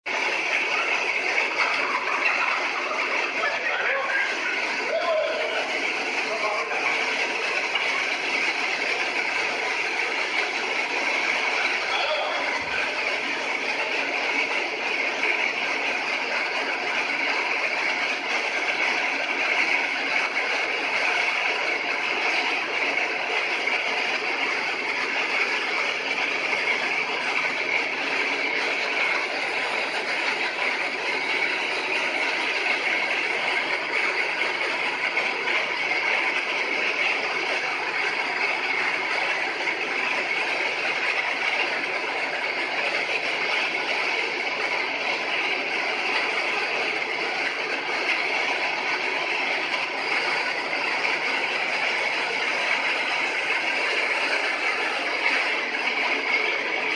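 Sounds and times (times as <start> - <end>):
chicken plucking machine running: 0.0 - 56.9.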